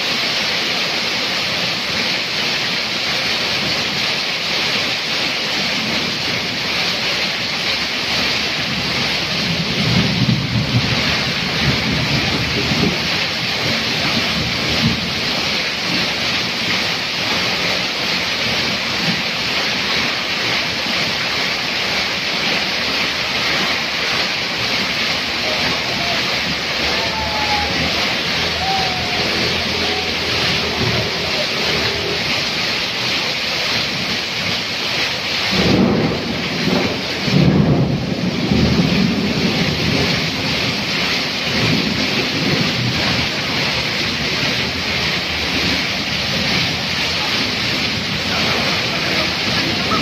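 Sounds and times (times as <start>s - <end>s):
heavy rain pouring: 0.0s - 50.0s
roof runoff splashing on ground: 0.0s - 50.0s.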